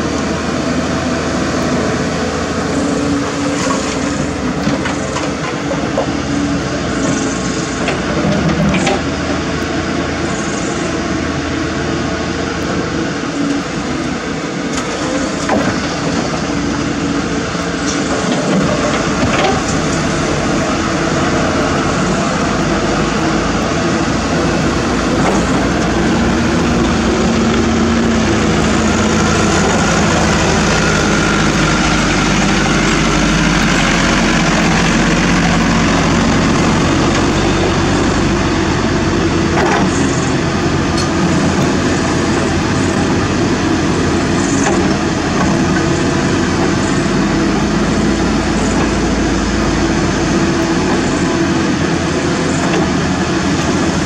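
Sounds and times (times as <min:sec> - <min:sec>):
excavator and truck engines: 0:00.0 - 0:54.0.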